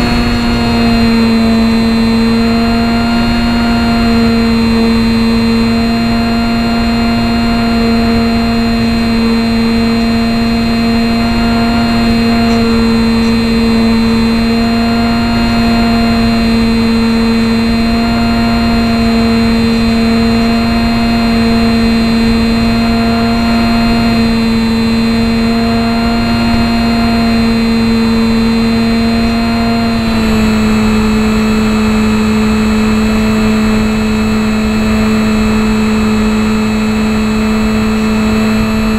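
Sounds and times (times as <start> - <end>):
electric motor propeller buzzing: 0.0 - 38.9.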